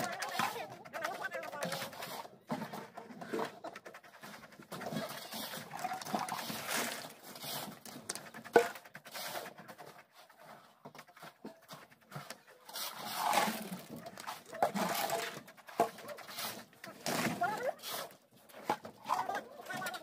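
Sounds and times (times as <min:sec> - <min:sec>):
scraping on wet concrete: 0:00.0 - 0:20.0.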